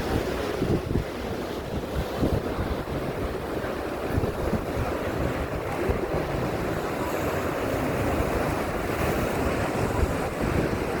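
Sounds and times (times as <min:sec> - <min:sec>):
ocean surf washing onto beach: 0:00.0 - 0:11.0
wind buffeting microphone: 0:00.0 - 0:11.0.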